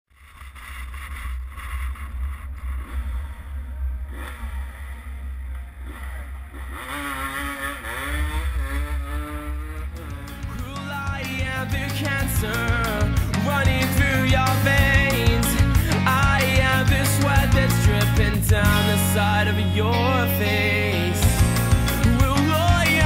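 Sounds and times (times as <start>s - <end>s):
truck engine revving: 0.2s - 23.0s.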